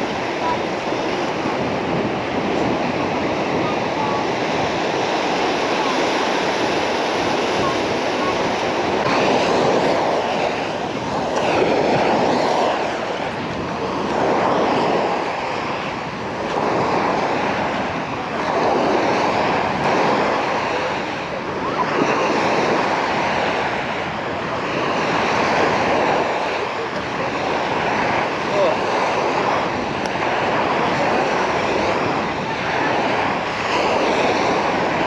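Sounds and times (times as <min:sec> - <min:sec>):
small waves washing onto beach: 0:00.0 - 0:35.0.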